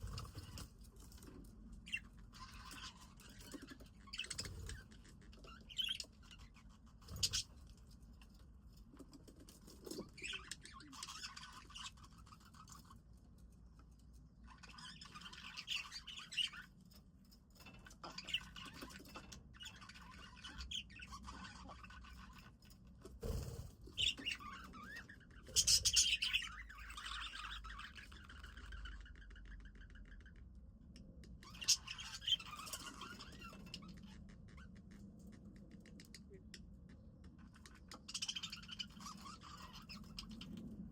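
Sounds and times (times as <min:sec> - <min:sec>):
budgies chirping and chattering: 0:00.0 - 0:40.9.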